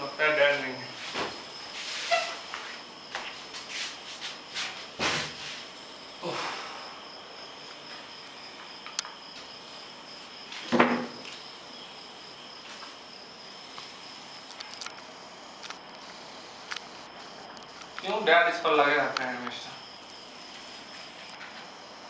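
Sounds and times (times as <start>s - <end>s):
cricket chirring: 0.0s - 22.0s.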